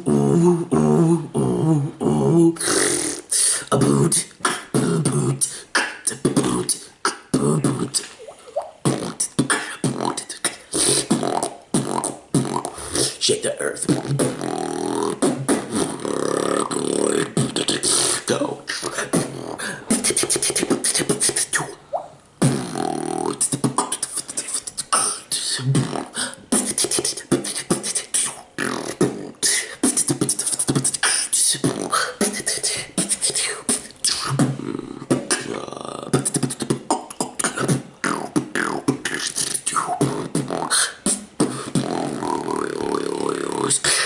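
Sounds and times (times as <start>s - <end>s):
beatboxing: 0.0s - 44.0s.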